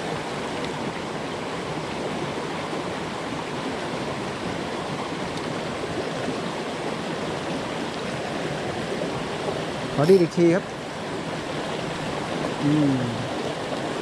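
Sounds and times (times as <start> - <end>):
stream rushing over stones: 0.0 - 14.0.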